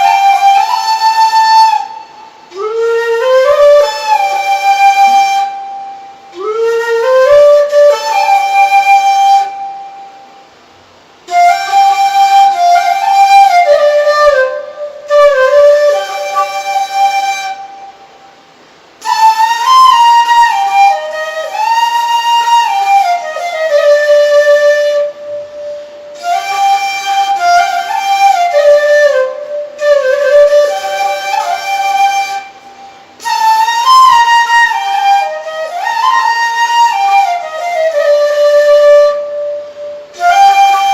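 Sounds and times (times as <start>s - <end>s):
slow wind instrument melody: 0.0s - 40.9s.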